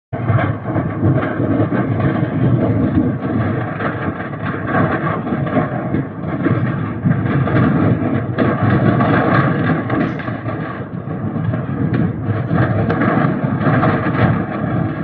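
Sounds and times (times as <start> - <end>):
fire rumbling: 0.1 - 15.0
fire crackling and popping: 0.2 - 15.0.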